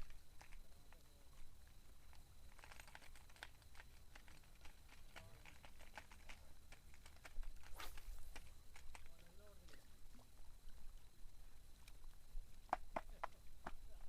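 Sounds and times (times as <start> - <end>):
faint clicks and ticks: 0.0 - 14.0.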